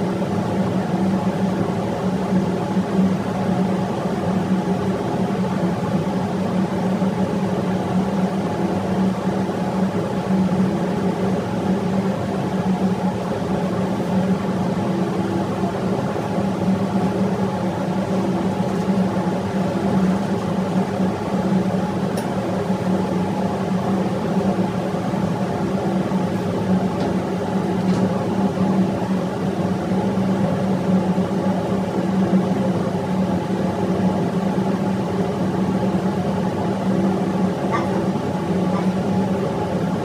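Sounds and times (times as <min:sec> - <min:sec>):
diesel generator droning: 0:07.5 - 0:40.0.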